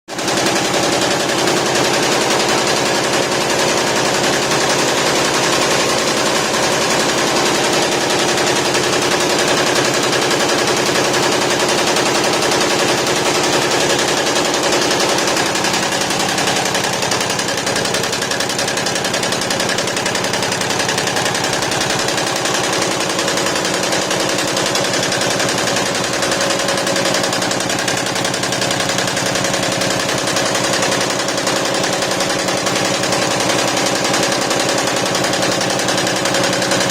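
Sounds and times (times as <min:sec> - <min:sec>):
embroidery machine needles clattering: 0:00.1 - 0:36.9
machine hum: 0:00.1 - 0:36.9.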